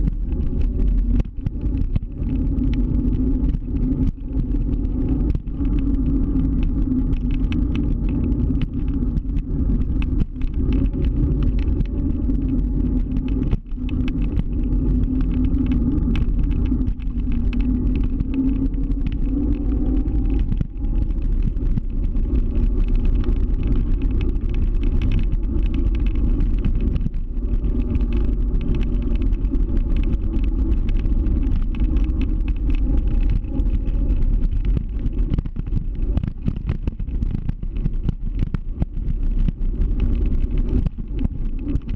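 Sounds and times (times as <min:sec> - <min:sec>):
faint whine: 0:00.0 - 0:41.9
scooter wheels rumbling on pavement: 0:00.0 - 0:41.9.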